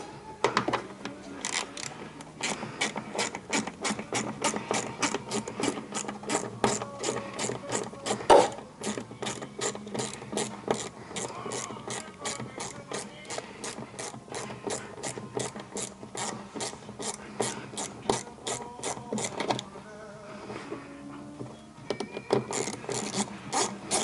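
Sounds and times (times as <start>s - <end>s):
socket ratchet clicking: 1.4s - 19.7s, 21.9s - 24.0s.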